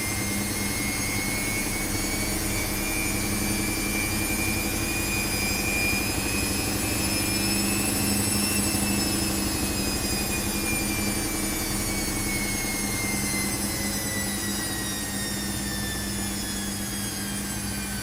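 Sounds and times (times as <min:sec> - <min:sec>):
motor whine rising in pitch: 0:00.0 - 0:18.0
washing machine running: 0:00.0 - 0:18.0.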